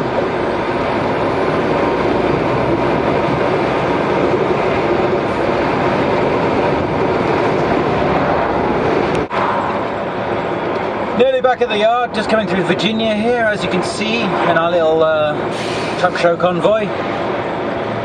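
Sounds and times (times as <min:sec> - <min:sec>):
lorry diesel engine: 0:00.0 - 0:18.0
road noise: 0:00.0 - 0:18.0.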